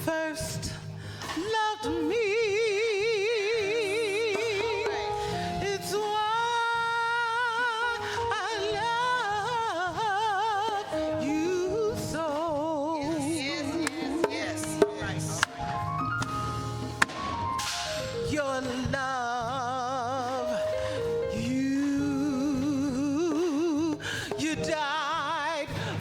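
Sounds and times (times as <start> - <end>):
person singing with vibrato: 0.0 - 15.8, 18.0 - 26.0
instrumental accompaniment: 1.2 - 26.0.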